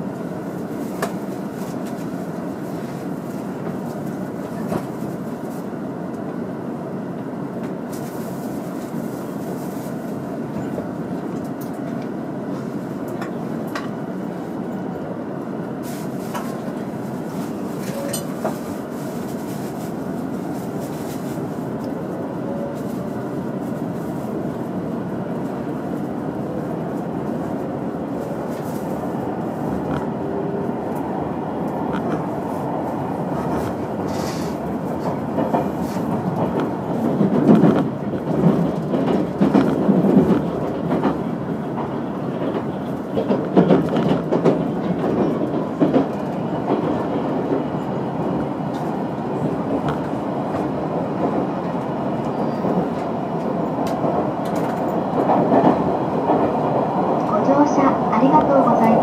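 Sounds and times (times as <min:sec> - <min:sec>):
clickety-clack rail clatter: 0:00.0 - 0:06.5, 0:07.1 - 0:59.0
train wheels rumbling on rail: 0:00.0 - 0:59.0.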